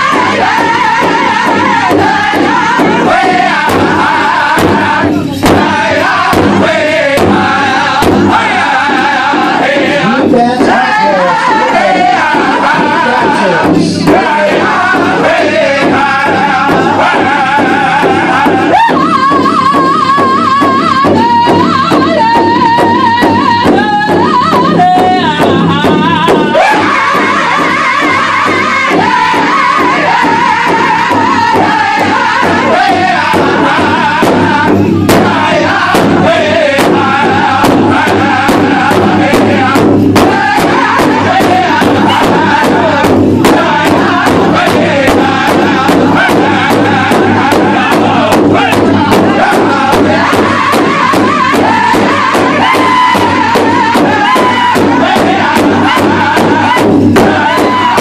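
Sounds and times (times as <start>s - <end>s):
large hide drum beats: 0.0s - 58.0s
men singing in chorus: 0.0s - 58.0s.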